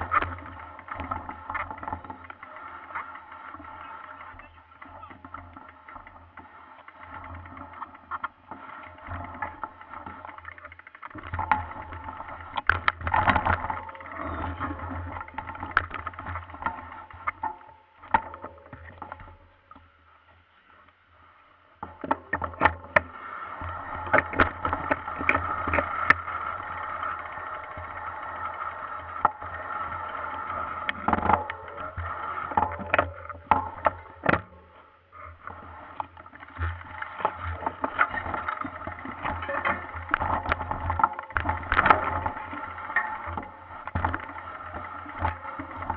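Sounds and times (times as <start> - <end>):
steady running noise: 0.0 - 19.8, 21.8 - 45.9
bike rattling over rough trail: 0.0 - 45.9.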